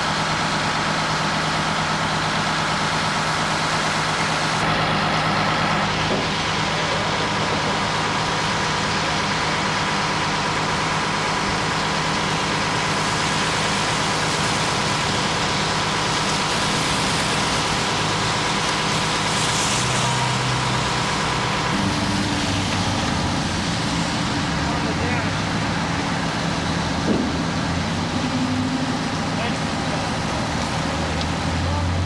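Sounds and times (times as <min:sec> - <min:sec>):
vehicle engine idling: 0:00.0 - 0:32.0
constant broad hiss: 0:02.7 - 0:32.0.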